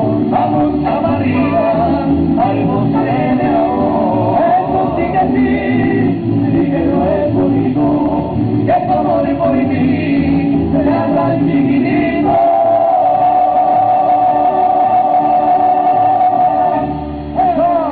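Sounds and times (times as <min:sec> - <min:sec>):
man singing: 0:00.0 - 0:17.9
mariachi band playing: 0:00.0 - 0:17.9.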